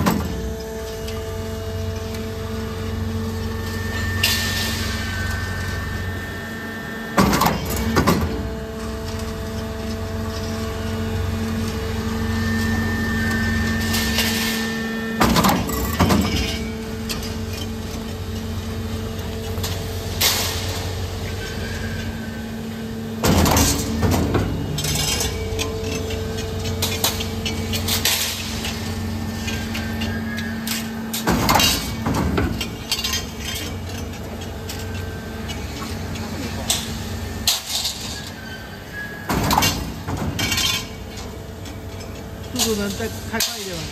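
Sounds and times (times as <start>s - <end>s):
motor and hydraulic hum: 0.0s - 43.9s.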